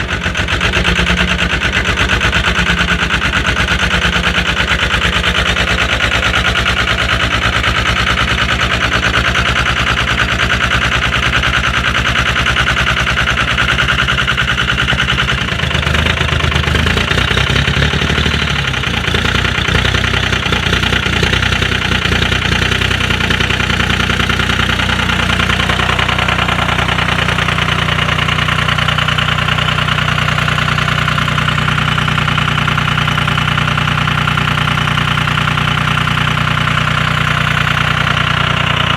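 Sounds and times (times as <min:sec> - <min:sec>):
diesel engine cranking and idling: 0:00.0 - 0:38.9.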